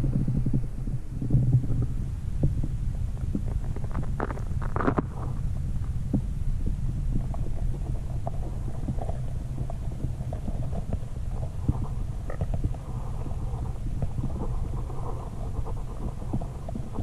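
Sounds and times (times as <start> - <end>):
low muffled underwater rumble: 0.0 - 17.0.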